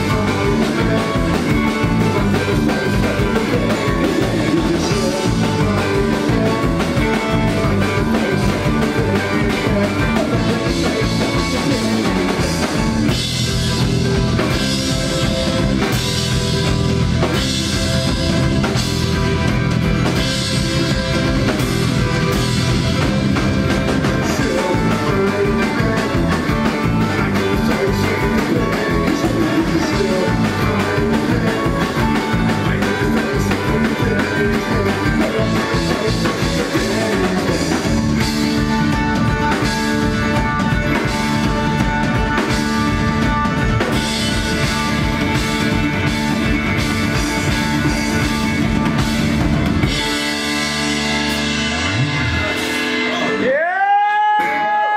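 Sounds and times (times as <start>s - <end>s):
bass guitar: 0.0s - 54.9s
drum kit: 0.0s - 54.9s
guitars: 0.0s - 54.9s.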